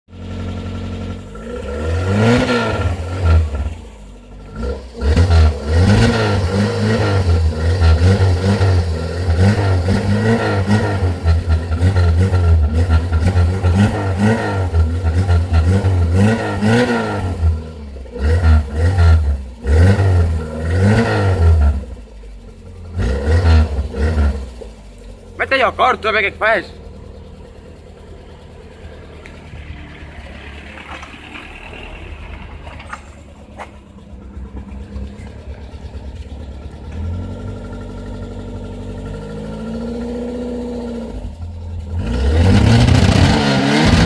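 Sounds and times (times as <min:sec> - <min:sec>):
car engine revving: 0:00.1 - 0:44.0.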